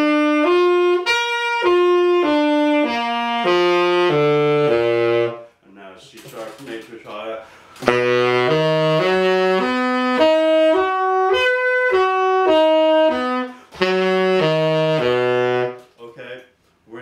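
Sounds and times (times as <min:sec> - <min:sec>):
tenor saxophone arpeggios: 0:00.0 - 0:05.5, 0:07.8 - 0:15.9.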